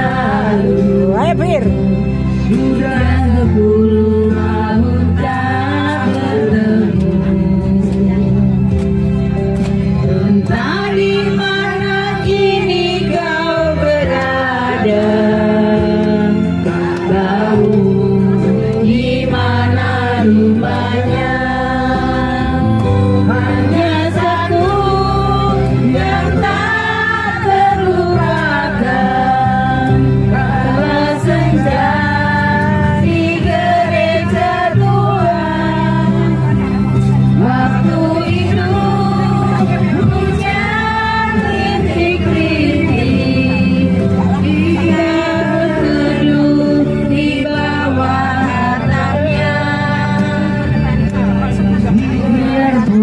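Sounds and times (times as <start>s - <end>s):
instrumental accompaniment: 0.0s - 53.0s
sung melody: 0.0s - 53.0s.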